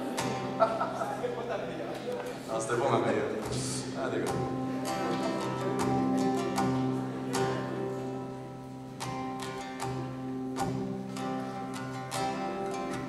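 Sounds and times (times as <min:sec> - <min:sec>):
acoustic guitar strumming: 0:00.0 - 0:01.7, 0:02.4 - 0:13.0.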